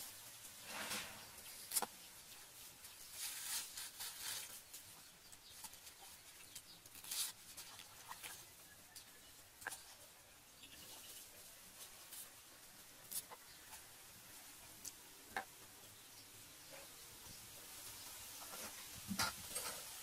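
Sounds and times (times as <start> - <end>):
leaves rustling: 0.0 - 20.0.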